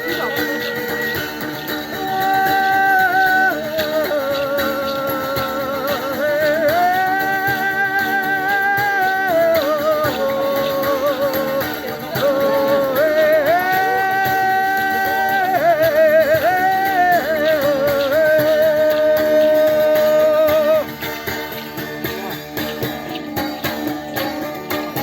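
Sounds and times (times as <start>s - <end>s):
plucked guitar: 0.0s - 25.0s.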